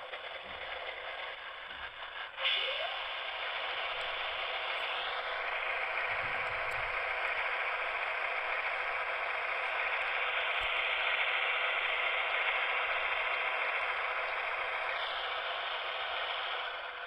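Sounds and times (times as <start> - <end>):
diesel engine sound from small speaker: 0.0 - 17.0.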